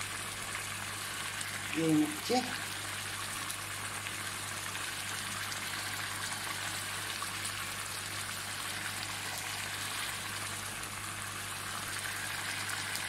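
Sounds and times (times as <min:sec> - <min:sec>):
curry simmering with sizzling hiss: 0:00.0 - 0:13.0.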